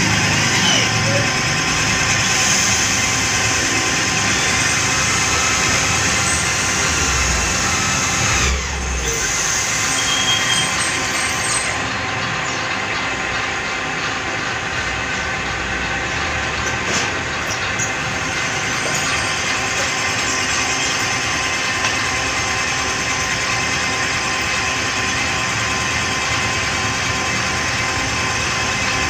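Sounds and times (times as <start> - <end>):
metal lathe whirring: 0.0 - 29.0.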